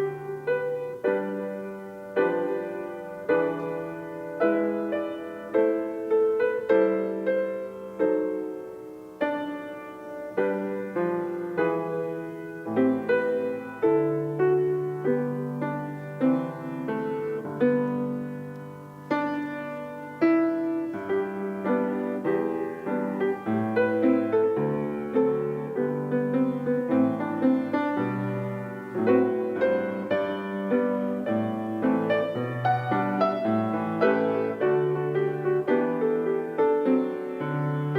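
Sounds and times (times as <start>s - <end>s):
slow solo piano piece: 0.0s - 37.9s.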